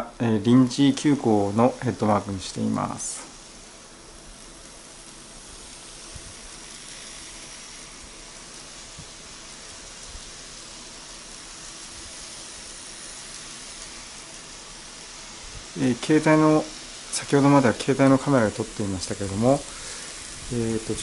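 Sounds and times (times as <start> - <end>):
model train whirring on track: 0.7 - 21.0.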